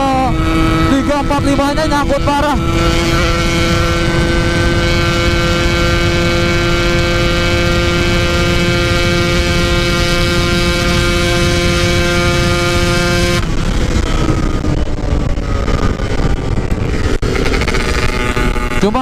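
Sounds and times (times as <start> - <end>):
loud wind rush: 0.0 - 19.0
two-stroke motorcycle engine revving: 0.0 - 19.0.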